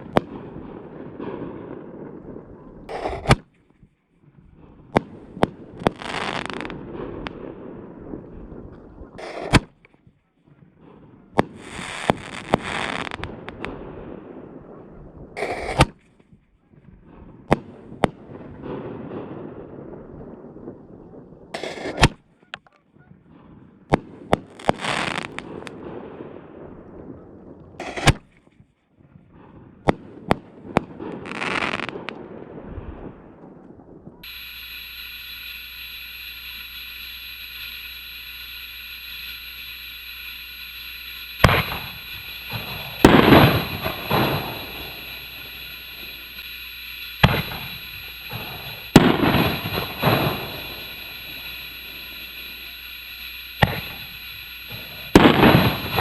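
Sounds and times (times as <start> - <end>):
firework bangs: 0.0 - 3.5, 4.8 - 9.8, 11.3 - 16.0, 17.3 - 22.2, 23.2 - 28.4, 29.7 - 56.0
crackling hissing bursts: 0.0 - 10.1, 10.7 - 22.6, 23.3 - 28.6, 29.4 - 56.0.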